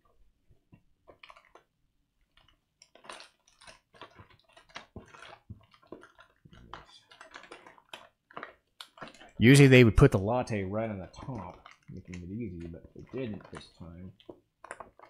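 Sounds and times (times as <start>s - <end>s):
snack wrappers crinkling: 1.0s - 15.0s.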